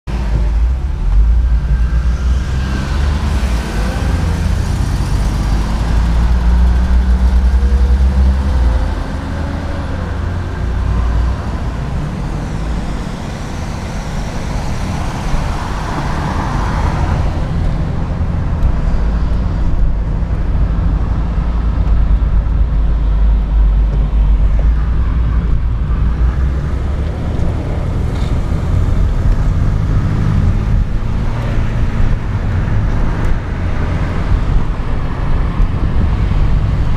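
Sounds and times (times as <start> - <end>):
car engine rumble: 0.0 - 36.9
tyre and road noise: 0.1 - 36.9.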